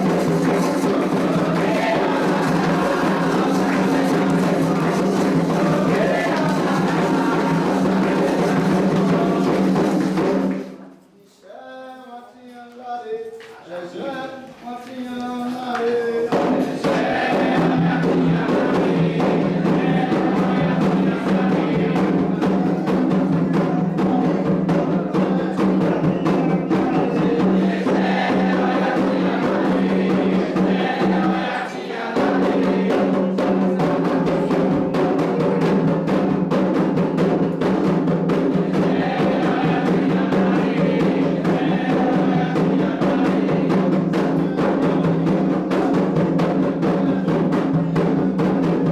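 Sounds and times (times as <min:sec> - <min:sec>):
lead voice singing: 0:00.0 - 0:10.6, 0:11.4 - 0:36.4, 0:37.9 - 0:48.1
group of voices singing: 0:00.0 - 0:10.9, 0:13.6 - 0:48.2
hand drums: 0:00.0 - 0:10.9, 0:16.3 - 0:48.9.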